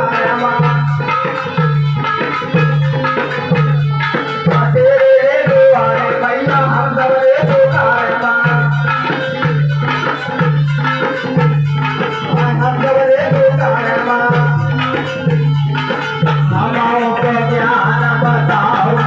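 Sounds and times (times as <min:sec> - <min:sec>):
devotional instrumental music: 0:00.0 - 0:19.0
rattling percussion: 0:00.0 - 0:19.0.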